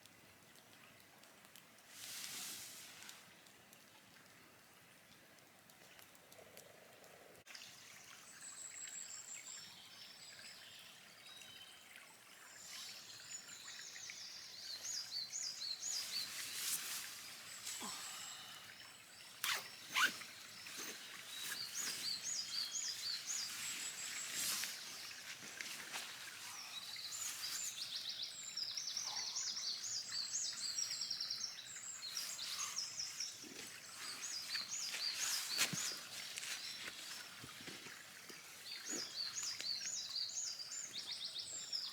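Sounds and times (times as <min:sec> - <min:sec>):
faint background hiss: 0:00.0 - 0:41.9
songbirds singing: 0:07.6 - 0:41.9.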